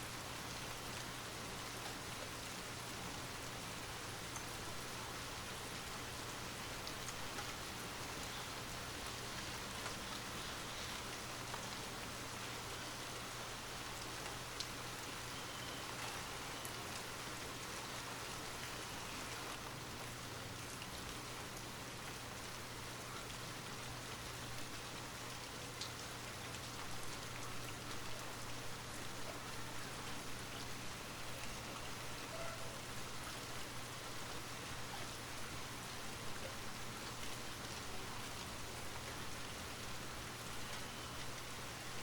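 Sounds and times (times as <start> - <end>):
light rain falling: 0.0 - 42.0
soft raindrop ticks: 0.5 - 42.0.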